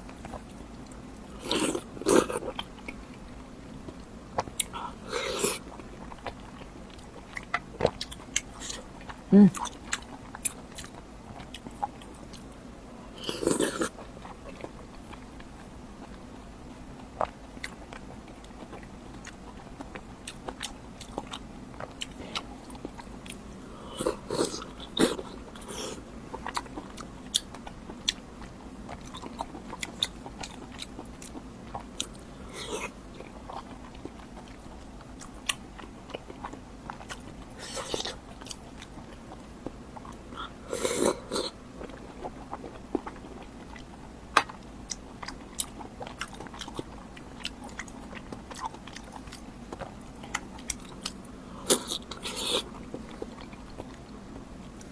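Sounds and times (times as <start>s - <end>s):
crunchy chewing and biting: 0.0s - 3.0s, 3.9s - 16.3s, 16.9s - 54.9s.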